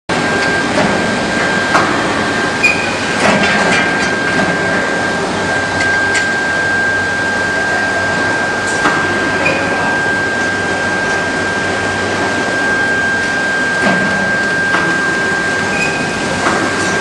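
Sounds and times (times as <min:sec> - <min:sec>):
constant noisy background: 0:00.1 - 0:17.0
furnace high-pitched whine: 0:00.1 - 0:17.0.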